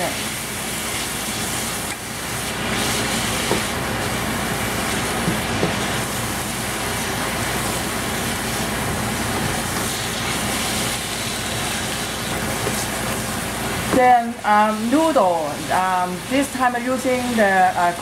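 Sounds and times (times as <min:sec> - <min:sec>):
noodles sizzling in a wok: 0:00.0 - 0:14.9.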